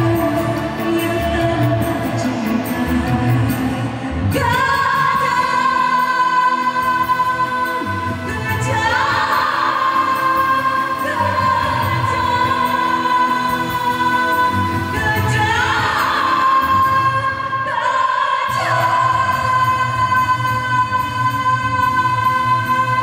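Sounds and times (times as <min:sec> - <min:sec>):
karaoke backing track: 0:00.0 - 0:23.0
woman singing into a microphone: 0:00.0 - 0:23.0.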